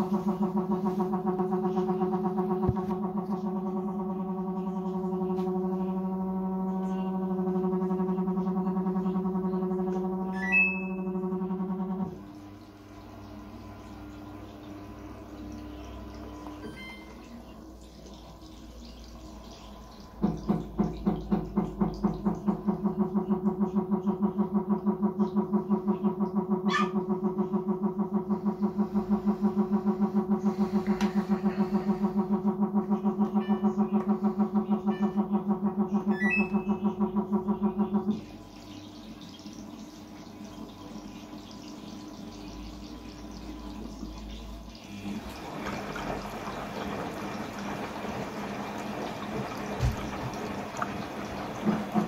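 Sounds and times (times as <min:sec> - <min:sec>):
washing machine humming: 0:00.0 - 0:52.0.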